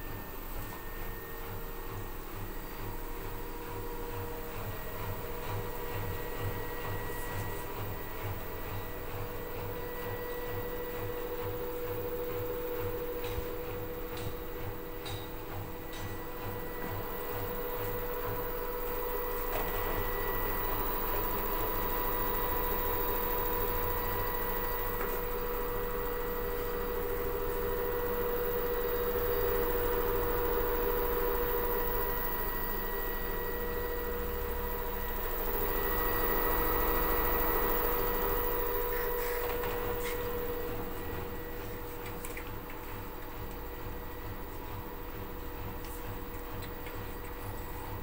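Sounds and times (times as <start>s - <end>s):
washing machine spin cycle: 0.0s - 48.0s.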